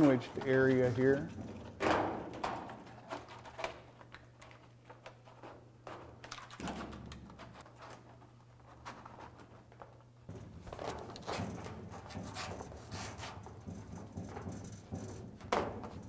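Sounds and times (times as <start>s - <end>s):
rubber sheet crinkling and tapping: 0.0s - 16.0s.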